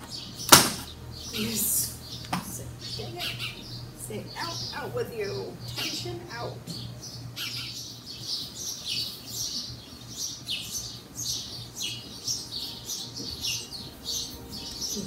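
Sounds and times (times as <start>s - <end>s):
faint low hum: 0.0s - 15.0s
small birds chirping: 0.0s - 15.0s.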